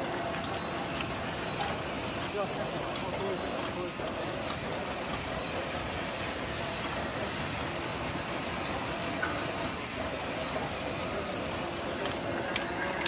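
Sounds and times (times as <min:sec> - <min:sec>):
packing machine running: 0:00.0 - 0:13.0.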